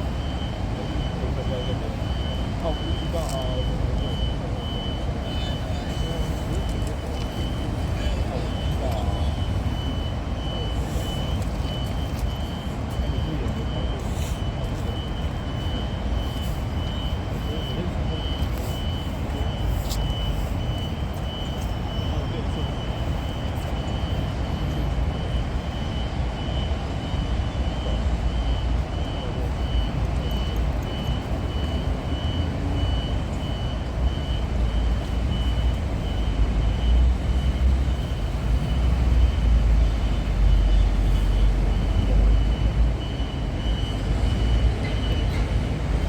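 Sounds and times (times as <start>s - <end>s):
high beeping: 0.0s - 46.0s
rail vehicle engine rumble: 0.0s - 46.0s.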